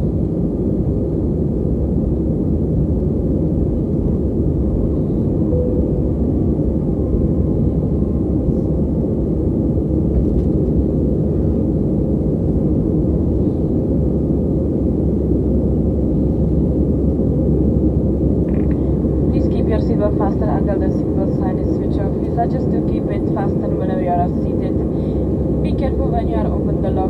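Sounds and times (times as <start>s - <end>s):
aircraft cabin engine roar: 0.0s - 27.0s.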